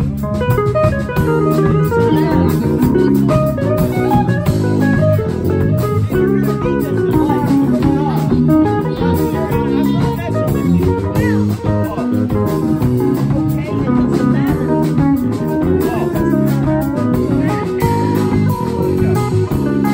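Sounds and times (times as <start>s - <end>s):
drum kit: 0.0s - 19.9s
electric bass: 0.0s - 19.9s
electric guitar melody: 0.0s - 19.9s.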